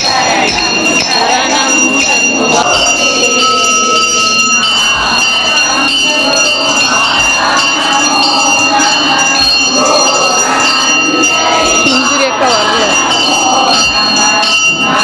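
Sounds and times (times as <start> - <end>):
temple bell ringing: 0.0 - 15.0
women singing together: 0.0 - 15.0.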